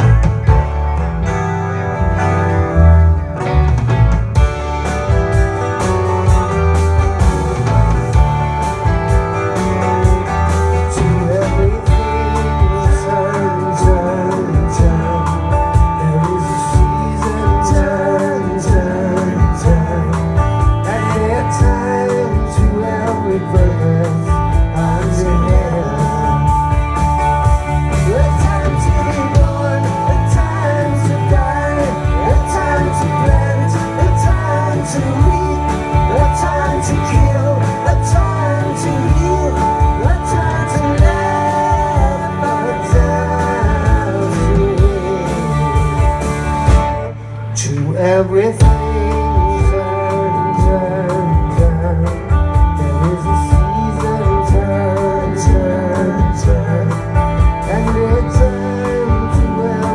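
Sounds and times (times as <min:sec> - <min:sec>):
bass line: 0:00.0 - 0:59.9
drums: 0:00.0 - 0:59.9
guitars: 0:00.0 - 0:59.9.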